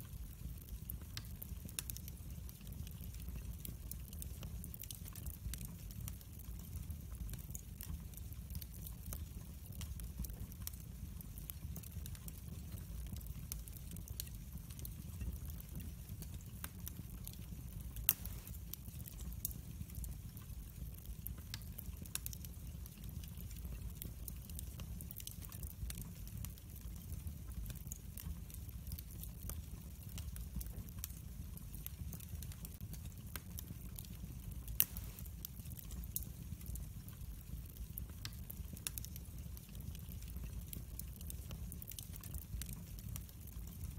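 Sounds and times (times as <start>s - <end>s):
fire flames rumbling: 0.0s - 43.9s
wood fire crackling and popping: 0.0s - 43.9s.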